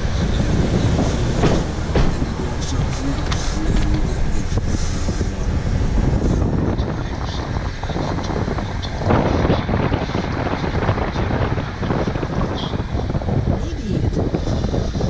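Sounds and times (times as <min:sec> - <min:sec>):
low road rumble: 0:00.0 - 0:15.0
wind buffeting microphone: 0:00.0 - 0:15.0.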